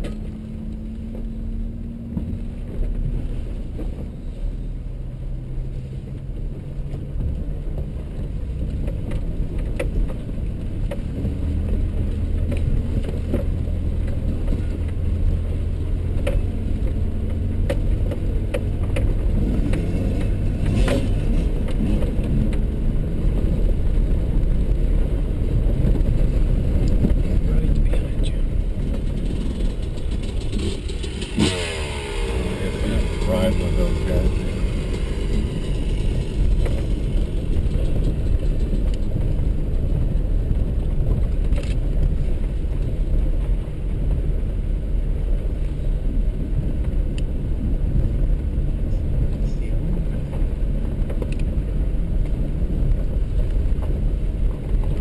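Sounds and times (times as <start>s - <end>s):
knocks and rattles from bumpy ride: 0.0s - 55.0s
vehicle engine from inside cab: 0.0s - 55.0s.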